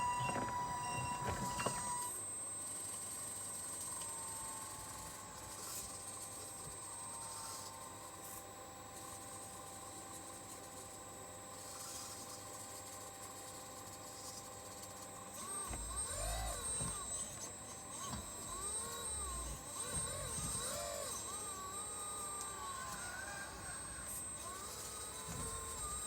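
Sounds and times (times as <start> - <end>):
model excavator motors whining: 0.0 - 26.0.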